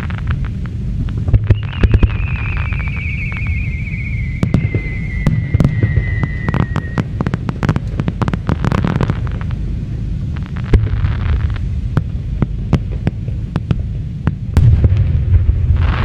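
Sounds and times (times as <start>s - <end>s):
firework bangs and crackles: 0.0s - 16.0s
low rumble: 0.0s - 16.0s
whistling firework: 0.0s - 16.0s.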